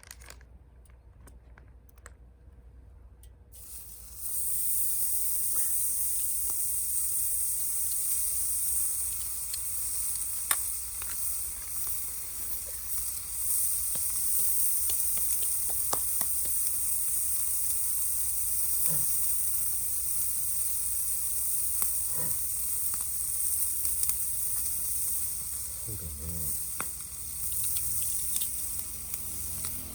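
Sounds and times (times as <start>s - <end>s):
pops and crackles: 0.0s - 2.2s, 3.6s - 29.9s
food sizzling in a pan: 3.6s - 29.9s.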